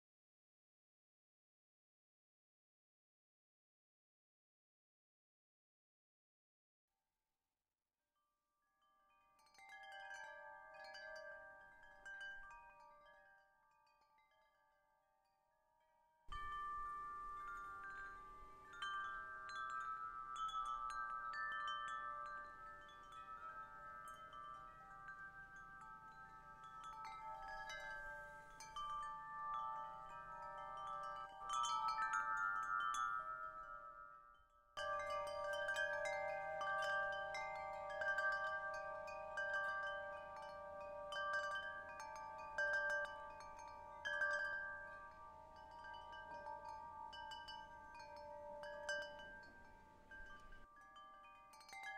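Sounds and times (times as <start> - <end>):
metal tube wind chimes ringing: 8.8 - 15.1, 16.3 - 51.9.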